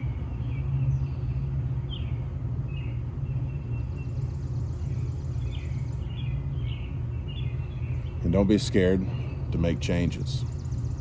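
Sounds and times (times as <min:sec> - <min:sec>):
bird chirps: 0:00.0 - 0:11.0
steady low rumble: 0:00.0 - 0:11.0.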